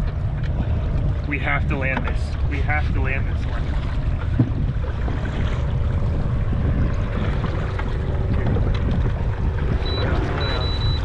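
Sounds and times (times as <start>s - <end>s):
water lapping around kayak: 0.0s - 11.0s
wind buffeting microphone: 0.0s - 11.0s.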